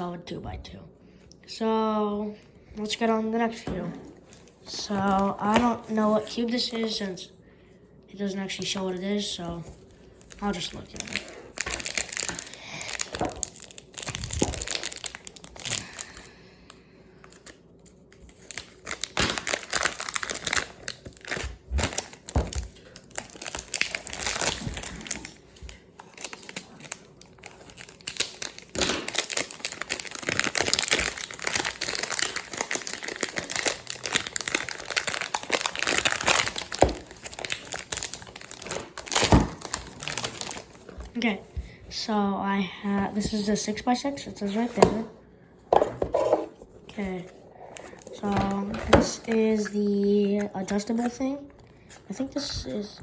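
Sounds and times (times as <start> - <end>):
packaging crinkling and rustling: 3.1 - 7.2, 8.5 - 16.4, 17.2 - 41.7, 45.8 - 53.0.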